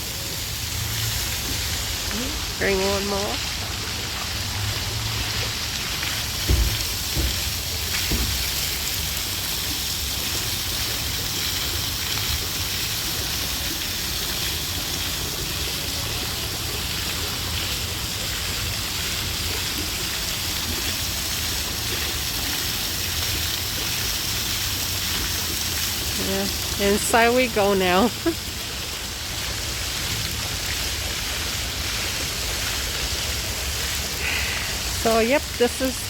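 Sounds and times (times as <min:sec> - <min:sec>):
fountain water splashing: 0:00.0 - 0:36.0.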